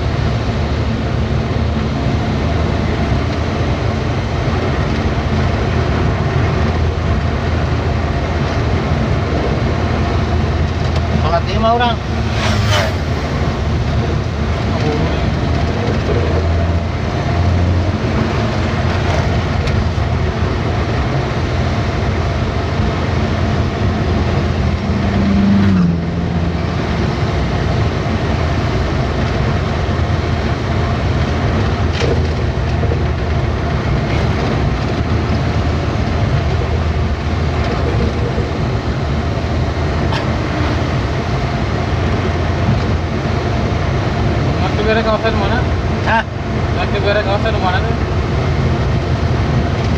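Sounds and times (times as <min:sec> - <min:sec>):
truck engine and road rumble: 0:00.0 - 0:49.9.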